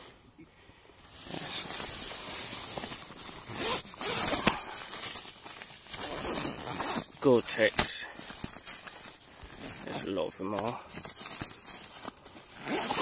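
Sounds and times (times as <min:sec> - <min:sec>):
nylon fabric rustling: 0:01.0 - 0:13.0.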